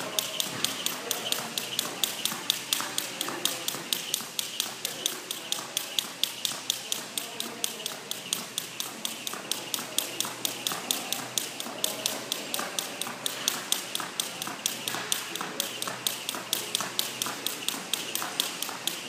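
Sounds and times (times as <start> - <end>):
jump rope slapping floor: 0.0 - 19.0.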